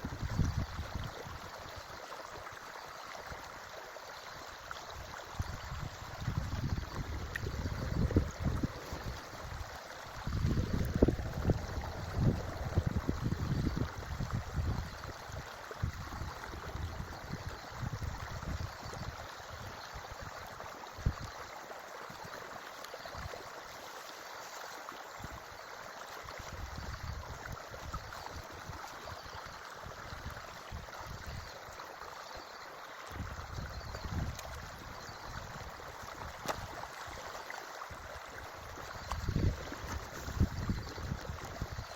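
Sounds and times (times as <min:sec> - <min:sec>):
creek water rushing: 0:00.0 - 0:41.9.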